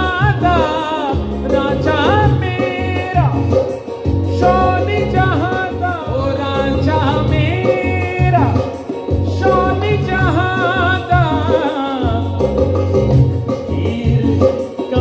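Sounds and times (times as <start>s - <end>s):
instrumental backing: 0.0s - 15.0s
man singing into a microphone: 0.0s - 15.0s.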